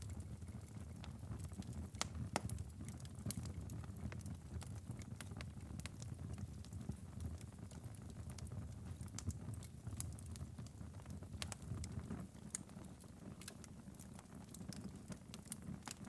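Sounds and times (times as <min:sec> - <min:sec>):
fire pops and snaps: 0:00.0 - 0:16.0
wood fire crackling: 0:00.0 - 0:16.0.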